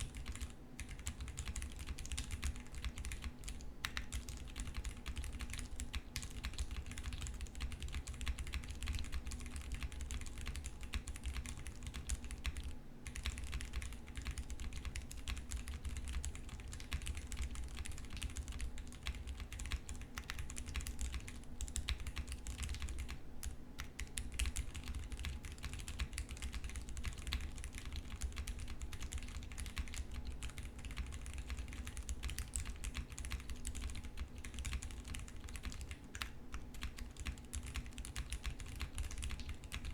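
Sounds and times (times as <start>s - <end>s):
mechanical keyboard typing: 0.0s - 23.2s, 23.8s - 39.9s.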